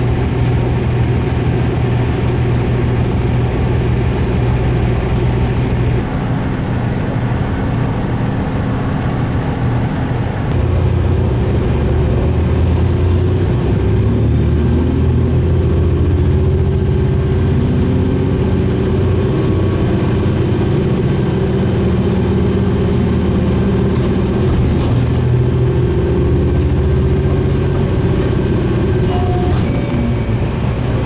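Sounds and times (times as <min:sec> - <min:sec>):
diesel railcar engine droning: 0:00.0 - 0:31.0.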